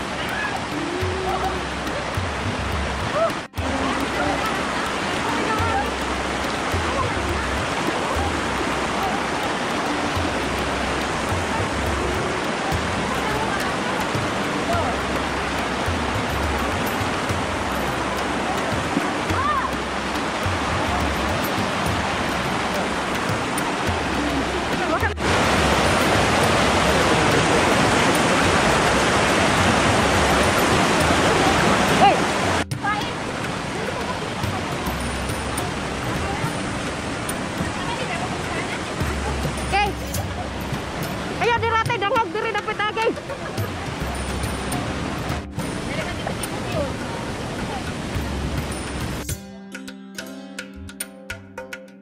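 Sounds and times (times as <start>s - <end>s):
river water rushing over rocks: 0.0s - 49.4s.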